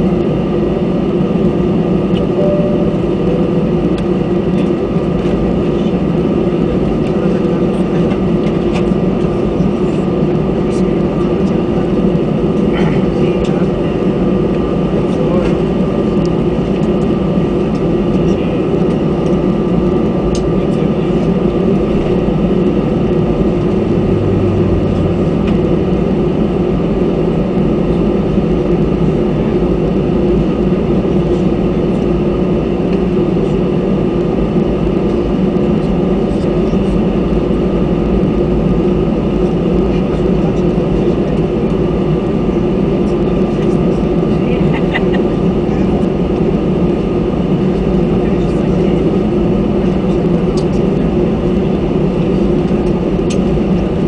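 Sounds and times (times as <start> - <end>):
jet engines humming with whine: 0.0 - 54.0.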